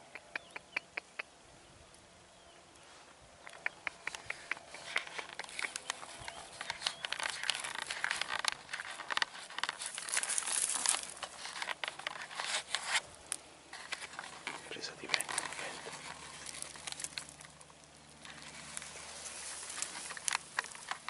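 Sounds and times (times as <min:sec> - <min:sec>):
dry grass rustling and crackling: 0:02.8 - 0:21.0.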